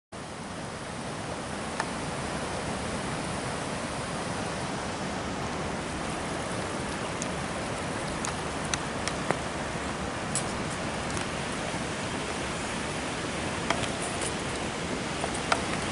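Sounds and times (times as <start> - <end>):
creek rushing over rocks: 0.2 - 15.9.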